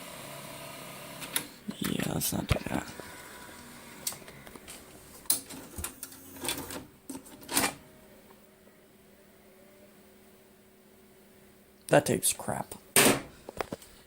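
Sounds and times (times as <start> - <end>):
machine hum: 0.0 - 11.7.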